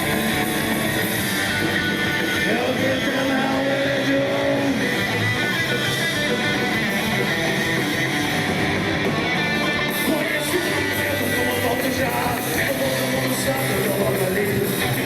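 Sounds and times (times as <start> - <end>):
electric guitar: 0.0 - 15.0
rock band playing live: 0.0 - 15.0.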